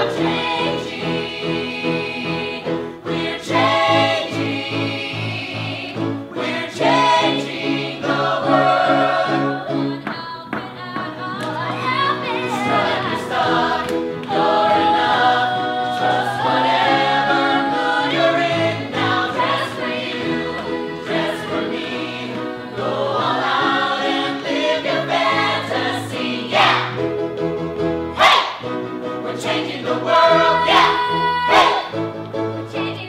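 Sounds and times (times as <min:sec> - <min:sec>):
group singing: 0:00.0 - 0:27.0, 0:28.2 - 0:32.0
instrumental backing: 0:00.0 - 0:33.0.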